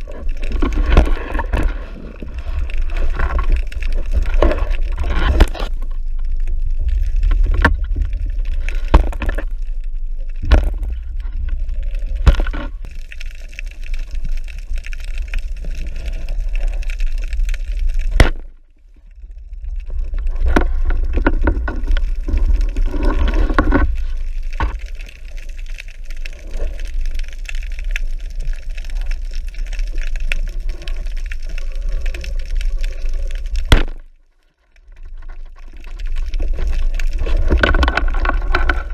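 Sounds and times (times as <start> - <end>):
water rushing underwater: 0.0 - 38.9.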